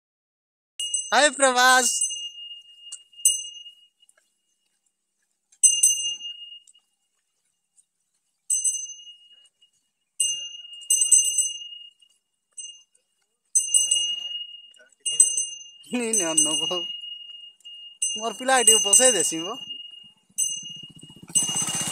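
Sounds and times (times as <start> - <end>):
metal bell ringing: 0.8 - 4.1, 5.6 - 6.9, 8.5 - 21.9.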